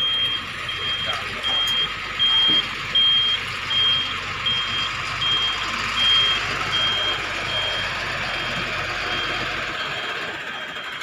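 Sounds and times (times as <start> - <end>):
truck reversing alarm beeping: 0.0 - 11.0.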